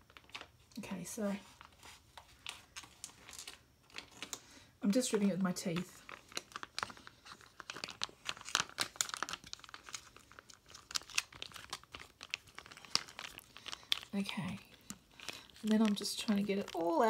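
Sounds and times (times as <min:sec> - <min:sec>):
food pouch crinkling and tearing: 0:00.0 - 0:00.6, 0:01.5 - 0:04.5, 0:05.6 - 0:17.0.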